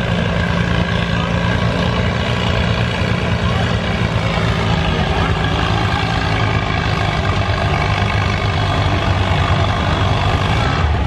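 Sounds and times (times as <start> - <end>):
tractor engine under heavy load: 0.0 - 11.0.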